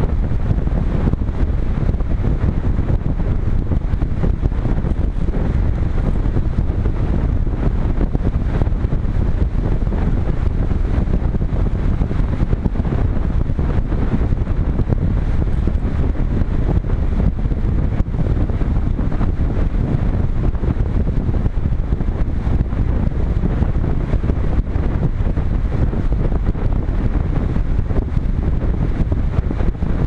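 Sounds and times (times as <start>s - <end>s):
wind rushing over camera: 0.0s - 30.0s.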